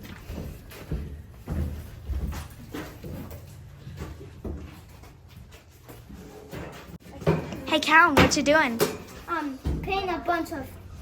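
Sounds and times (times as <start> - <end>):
boxes knocking and thumping: 0.0 - 10.2.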